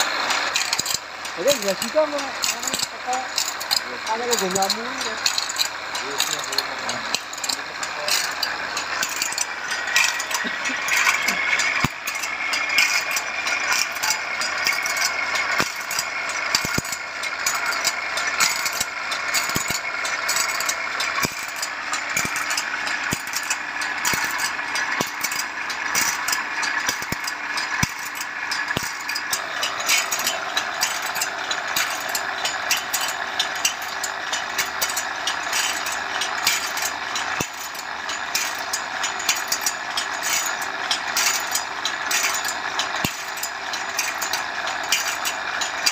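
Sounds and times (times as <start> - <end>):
fast clatter of clicks: 0.0 - 45.9
grinding disc hissing on saw teeth: 0.0 - 45.9.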